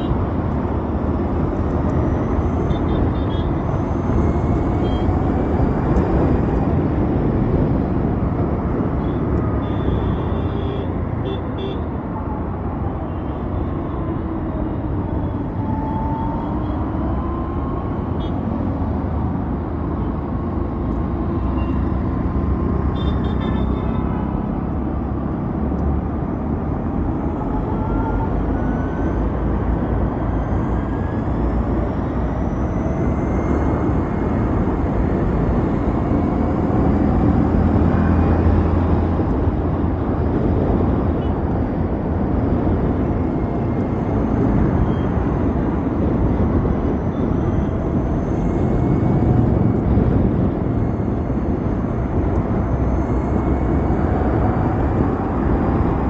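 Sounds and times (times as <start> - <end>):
wind and road noise rumble: 0.0 - 56.0.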